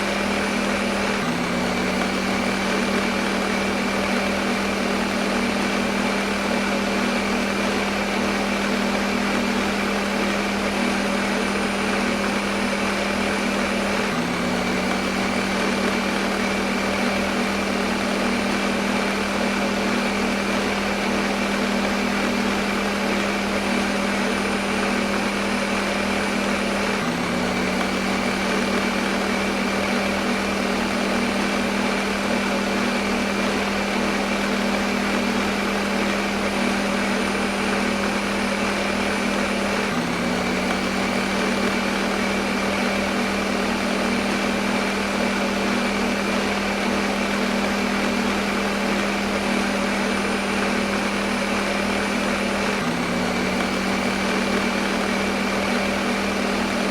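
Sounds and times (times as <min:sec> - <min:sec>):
blender motor humming: 0:00.0 - 0:56.9.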